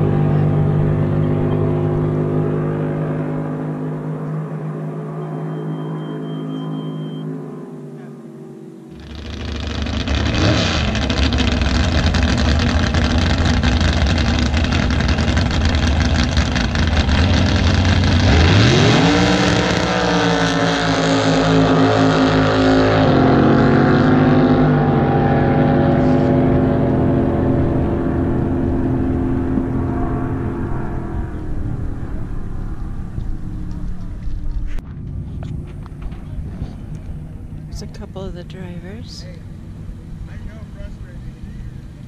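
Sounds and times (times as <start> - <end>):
racing boat engines: 0.0 - 42.0.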